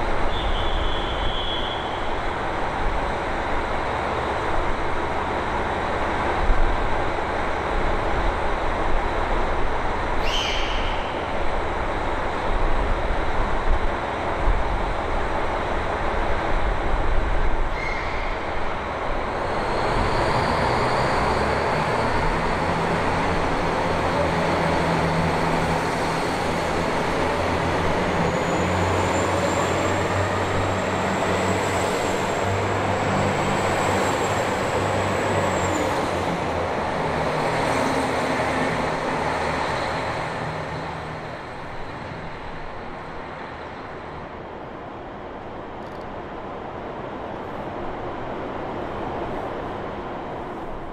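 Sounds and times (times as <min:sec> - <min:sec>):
diesel train engines: 0:00.0 - 0:50.9
wheels rumbling on rail: 0:00.0 - 0:50.9.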